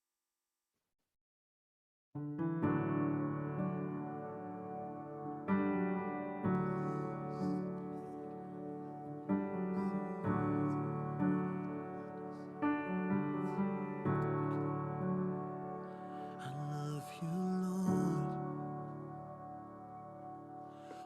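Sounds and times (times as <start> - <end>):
slow piano chords: 2.2 - 21.0.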